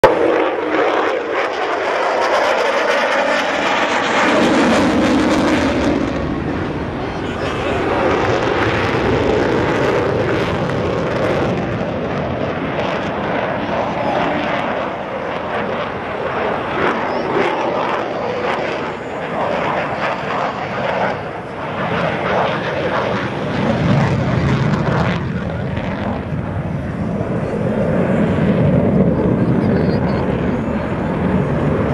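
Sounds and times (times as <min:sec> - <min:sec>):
fighter jet roaring past: 0:00.0 - 0:31.9.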